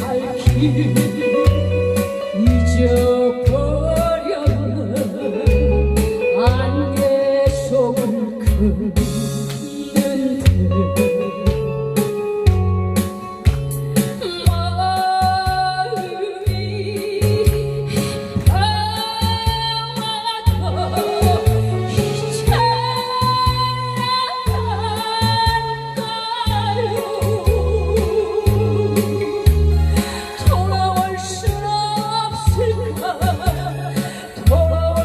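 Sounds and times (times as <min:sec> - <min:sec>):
woman singing with vibrato: 0:00.0 - 0:11.9, 0:14.2 - 0:35.0
backing track with bass and drums: 0:00.0 - 0:35.0.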